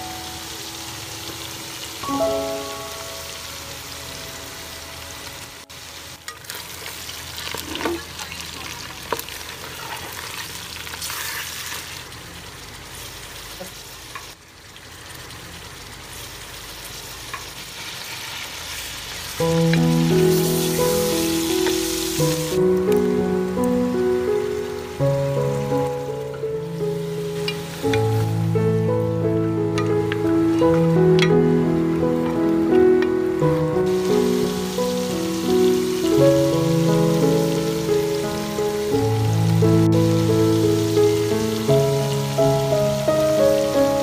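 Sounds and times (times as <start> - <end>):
meat sizzling in oil: 0.0 - 44.0.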